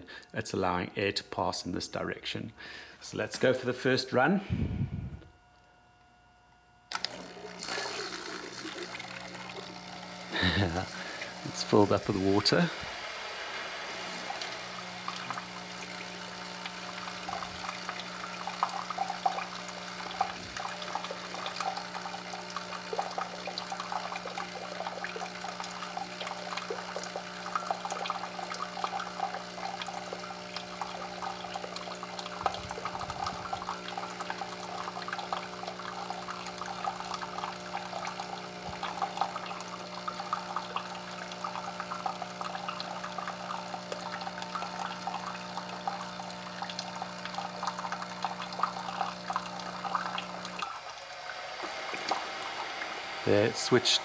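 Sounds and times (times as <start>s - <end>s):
coffee maker low hum: 2.8s - 54.0s
coffee maker brewing water crackling: 6.9s - 54.0s.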